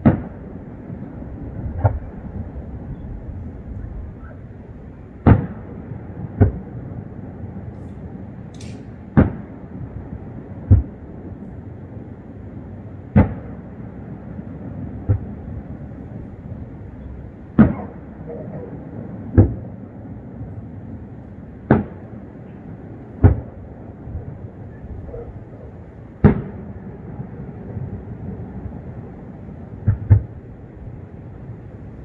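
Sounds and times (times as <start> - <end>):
firework shells booming: 0.0 - 3.3, 4.4 - 11.6, 13.1 - 19.8, 21.6 - 31.3
steady background noise: 0.0 - 32.0.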